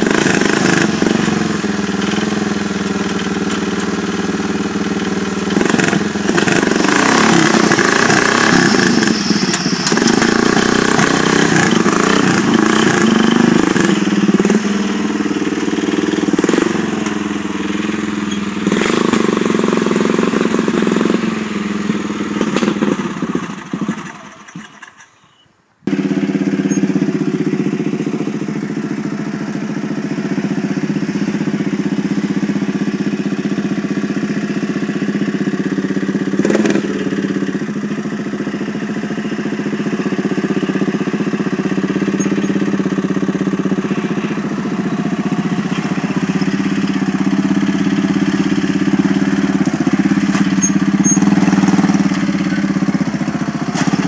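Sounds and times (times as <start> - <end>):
small engine revving: 0.0 - 25.2, 25.9 - 54.0.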